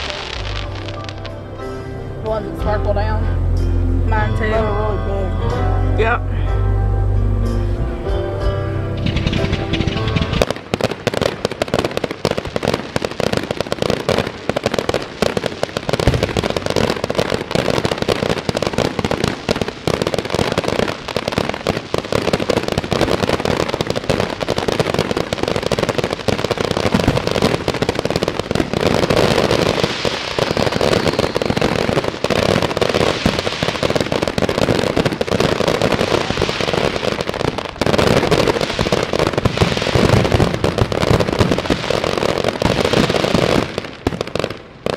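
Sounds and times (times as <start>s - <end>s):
fireworks cracking and popping: 0.0s - 1.5s, 8.9s - 44.9s.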